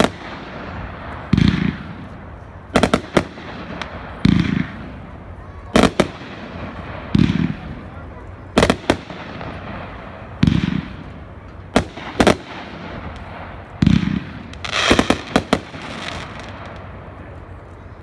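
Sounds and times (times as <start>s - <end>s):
fireworks bangs: 0.0s - 17.9s.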